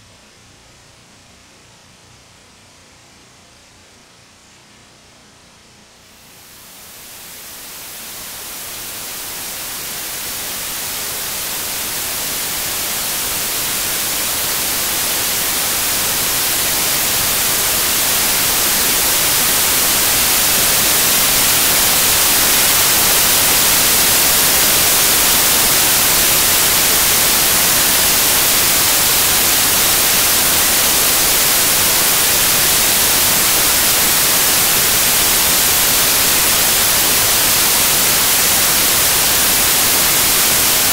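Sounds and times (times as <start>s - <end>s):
white noise static hiss: 0.0s - 40.9s.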